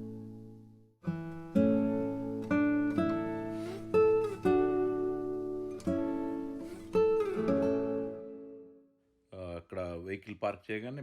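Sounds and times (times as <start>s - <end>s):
guitar chords ringing out: 0.0s - 8.9s.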